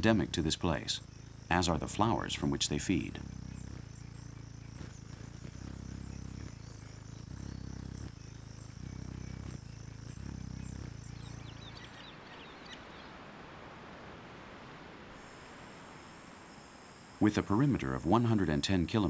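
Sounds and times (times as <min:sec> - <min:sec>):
faint ticks: 0:00.0 - 0:19.0
forest hiss: 0:00.0 - 0:19.0
high insect chirps: 0:00.0 - 0:19.0
hummingbird wings humming: 0:00.0 - 0:19.0.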